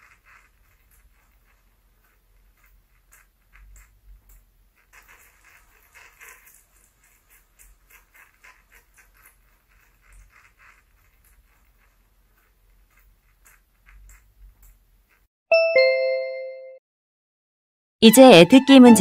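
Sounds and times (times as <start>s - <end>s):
dog claws clicking and pattering: 0.0s - 15.2s.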